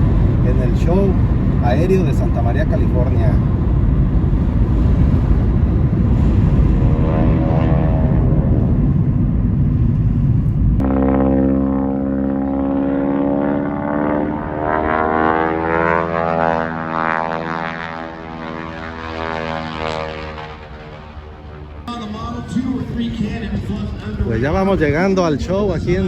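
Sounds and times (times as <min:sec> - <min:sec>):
low rumble: 0:00.0 - 0:26.0
propeller aircraft engine droning: 0:00.0 - 0:26.0.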